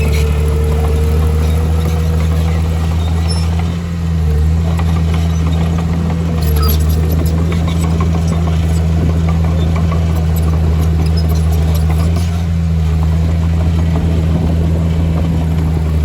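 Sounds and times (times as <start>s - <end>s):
heavy diesel engine humming: 0.0s - 16.0s.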